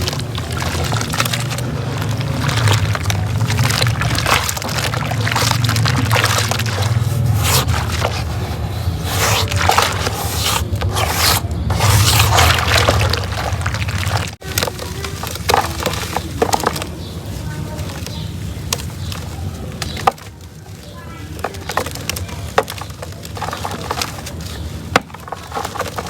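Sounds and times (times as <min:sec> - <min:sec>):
cement crumbling by hand: 0:00.0 - 0:26.0.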